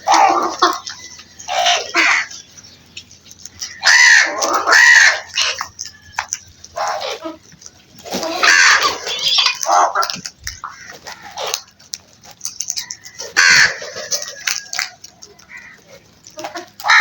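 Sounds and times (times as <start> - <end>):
crows cawing: 0.0 - 2.8, 3.5 - 7.4, 8.1 - 11.8, 12.7 - 17.0.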